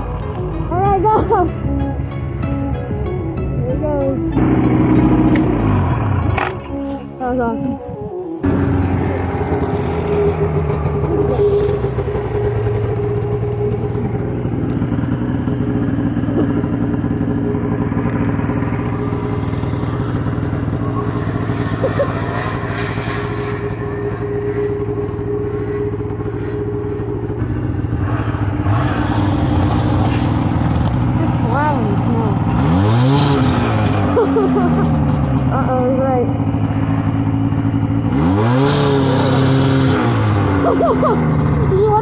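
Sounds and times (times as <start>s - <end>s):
snowmobile engine running: 0.0s - 42.0s.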